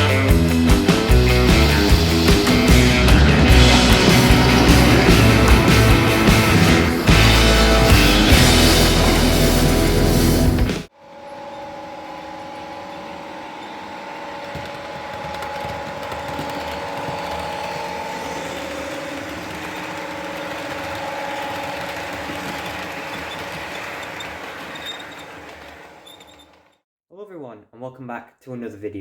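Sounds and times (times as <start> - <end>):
locomotive engine whining: 0.0 - 26.8.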